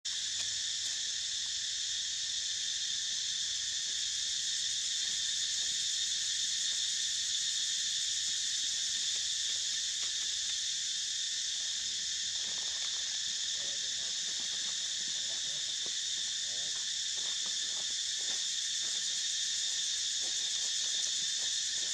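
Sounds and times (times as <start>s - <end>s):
insect chorus drone: 0.1s - 21.9s.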